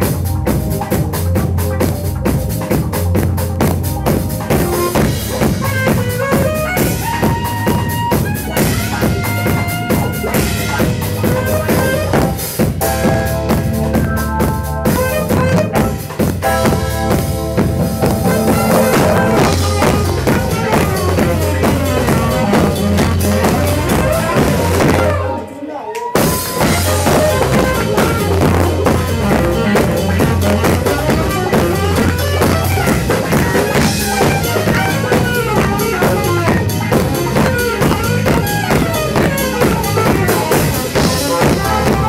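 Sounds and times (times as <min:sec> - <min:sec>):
drum kit beat: 0:00.0 - 0:42.0
live band music: 0:00.0 - 0:42.0.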